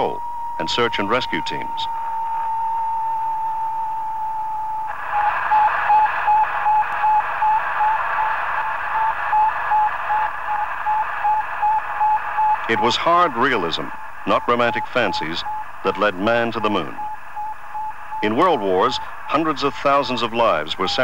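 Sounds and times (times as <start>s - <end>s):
radio static: 0.0s - 21.0s
rapid beeping tone: 0.0s - 21.0s
steady high tone: 0.0s - 21.0s.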